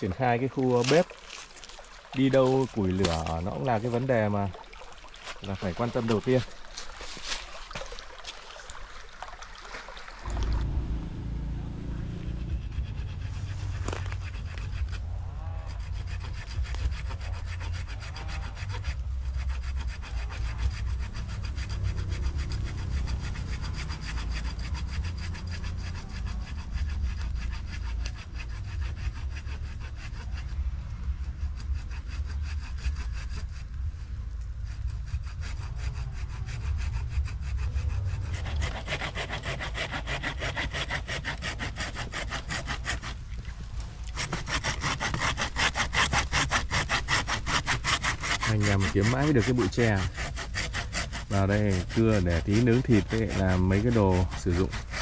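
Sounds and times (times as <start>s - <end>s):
saw cutting bamboo: 0.0s - 4.6s, 5.2s - 7.8s, 10.4s - 55.0s.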